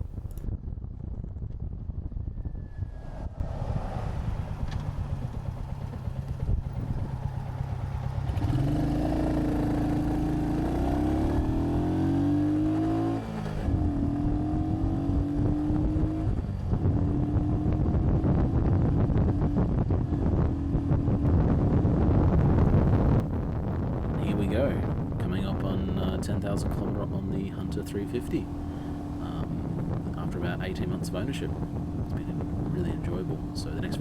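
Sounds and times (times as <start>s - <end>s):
wind noise on microphone: 0.0s - 34.0s
motorcycle engine running: 3.2s - 34.0s.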